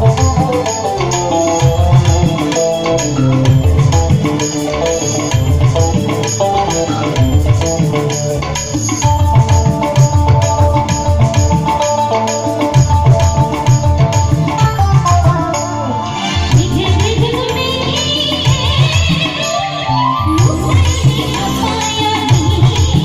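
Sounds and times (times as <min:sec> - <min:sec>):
instrumental music with drums: 0:00.0 - 0:23.0.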